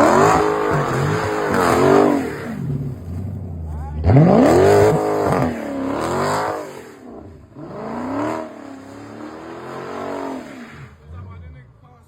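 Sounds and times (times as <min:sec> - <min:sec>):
car engine revving hard: 0:00.0 - 0:03.0, 0:04.0 - 0:11.2.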